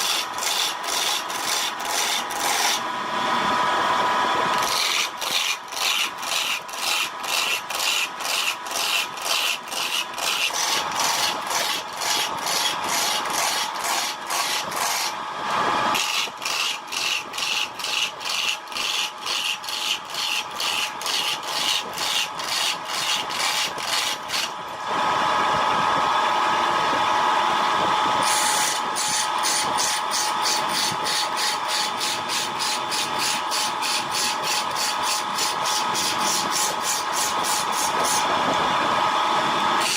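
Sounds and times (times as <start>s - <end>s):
wood scraped on a lathe: 0.0s - 2.9s, 4.5s - 24.6s, 28.2s - 38.3s
lathe whine: 0.0s - 39.9s.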